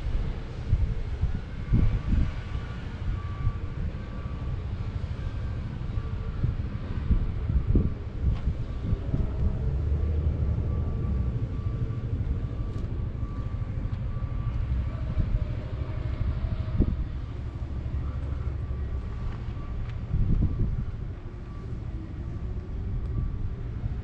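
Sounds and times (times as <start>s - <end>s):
diesel engine running: 0.0s - 24.0s
faint whine: 0.0s - 24.0s.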